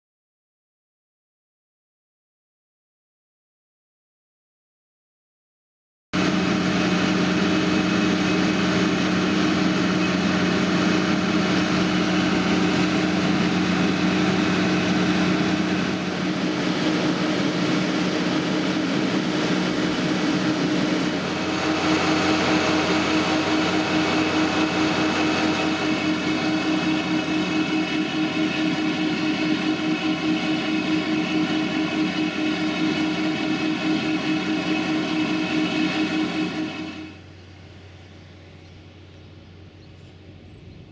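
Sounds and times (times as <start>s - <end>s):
tractor diesel engine drone: 6.2s - 40.9s.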